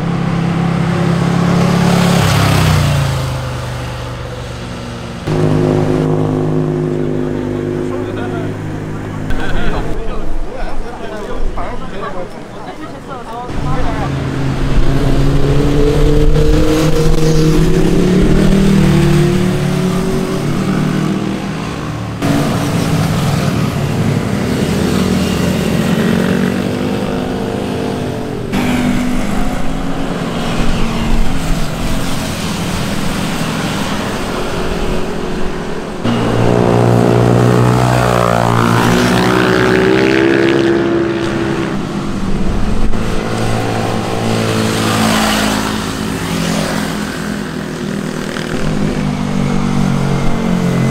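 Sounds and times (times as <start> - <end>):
motorcycle engines passing and revving: 0.0 - 50.9.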